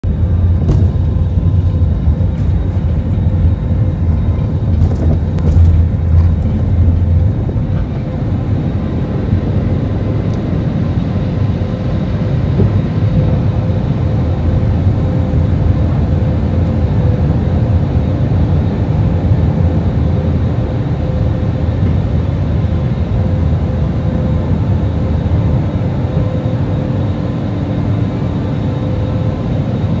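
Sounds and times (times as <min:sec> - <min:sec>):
airliner cabin engine drone: 0:00.0 - 0:30.0.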